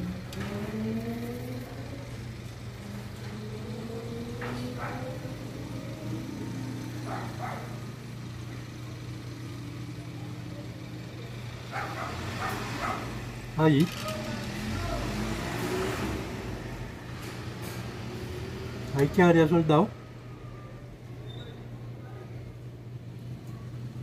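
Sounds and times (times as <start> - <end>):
vehicle engine running: 0.0 - 20.6.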